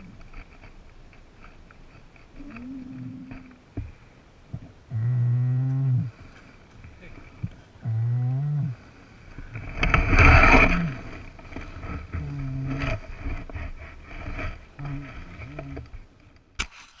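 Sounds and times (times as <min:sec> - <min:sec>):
rustling against helmet camera: 0:00.0 - 0:04.8, 0:06.1 - 0:07.8, 0:08.7 - 0:17.0.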